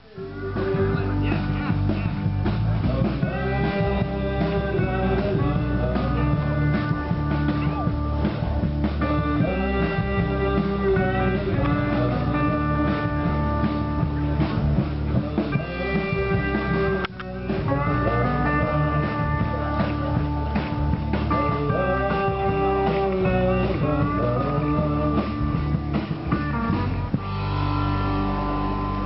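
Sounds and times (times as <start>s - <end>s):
guitar-led rock music: 0.0s - 29.0s.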